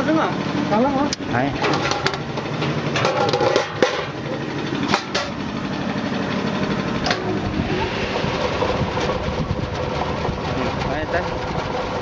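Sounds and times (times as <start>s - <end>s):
processing machinery humming: 0.0s - 12.0s.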